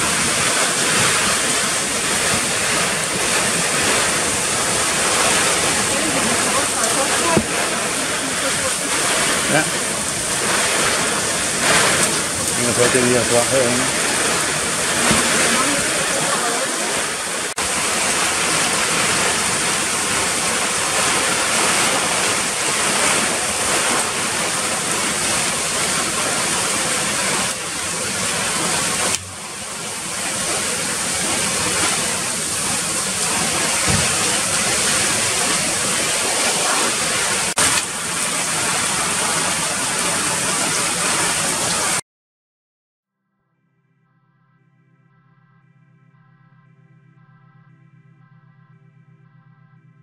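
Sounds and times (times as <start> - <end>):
heavy rain on roof and patio: 0.0 - 42.0.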